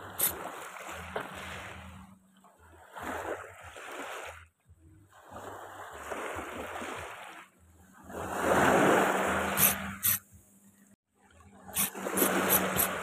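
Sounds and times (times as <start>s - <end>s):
small waves washing ashore: 0.0s - 10.4s, 11.2s - 13.0s.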